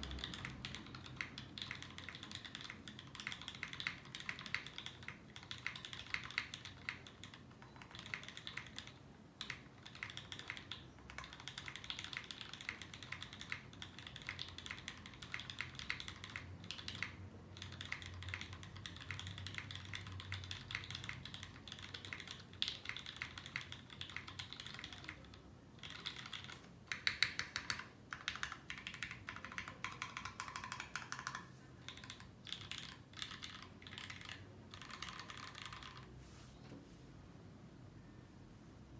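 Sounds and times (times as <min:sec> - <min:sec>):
mechanical keyboard typing: 0:00.0 - 0:36.1.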